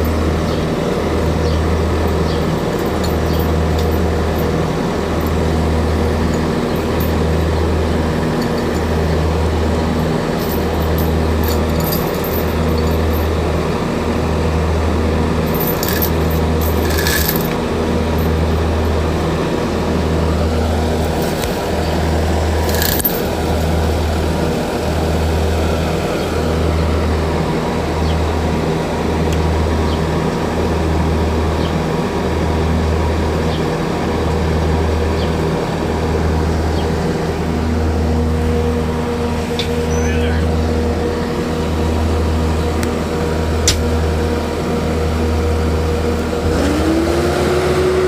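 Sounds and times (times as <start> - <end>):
skid steer engine humming: 0.0 - 48.0.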